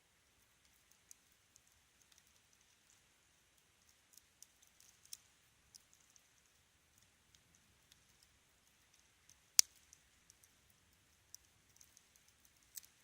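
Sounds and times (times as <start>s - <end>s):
fire crackling in a fireplace: 0.0s - 13.0s.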